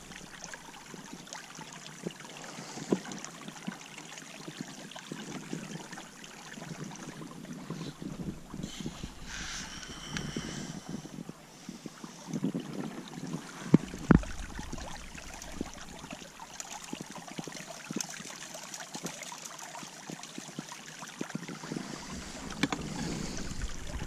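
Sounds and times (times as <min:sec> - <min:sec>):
water running through metal sluice: 0:00.0 - 0:11.1, 0:13.2 - 0:24.0.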